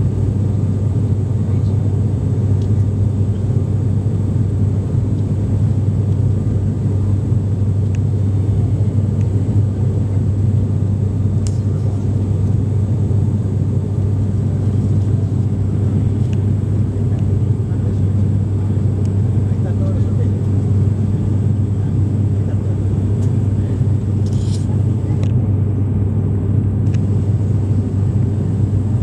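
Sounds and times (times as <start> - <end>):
airplane engine drone in cabin: 0.0 - 29.0.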